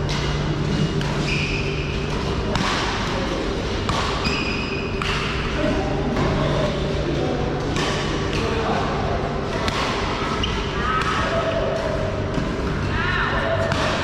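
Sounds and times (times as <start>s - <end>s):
rackets hitting shuttlecock: 0.0s - 6.8s, 7.6s - 12.8s, 13.5s - 14.0s
steady low hum: 0.0s - 14.0s.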